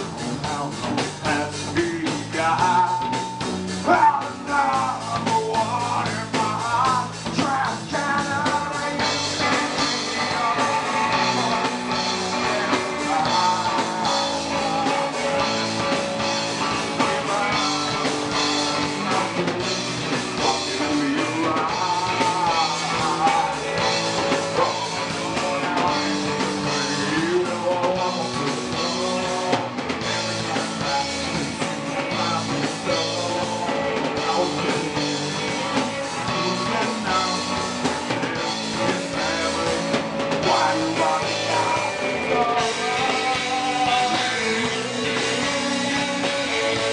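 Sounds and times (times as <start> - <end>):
punk rock band playing: 0.0 - 46.9.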